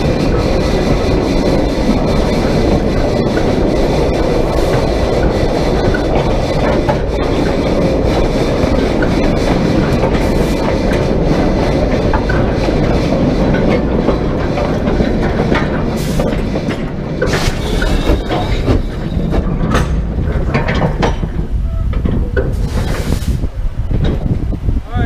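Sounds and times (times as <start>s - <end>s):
steam train rumbling on track: 0.0s - 25.0s.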